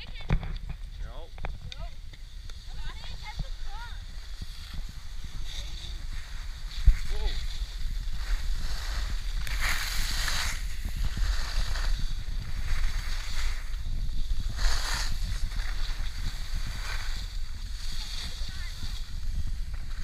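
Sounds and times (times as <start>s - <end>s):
wind rumbling on microphone: 0.0s - 20.0s
skis scraping over snow: 0.8s - 20.0s.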